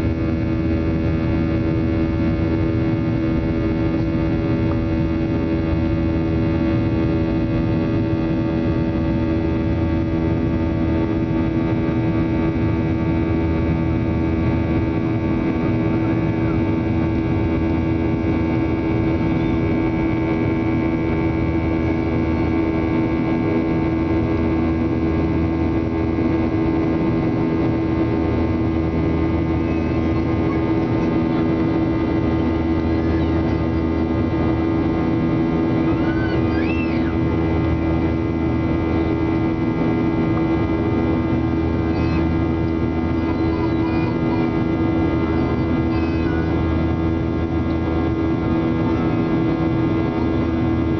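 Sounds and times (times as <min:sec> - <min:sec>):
airliner cabin engine drone: 0:00.0 - 0:50.9.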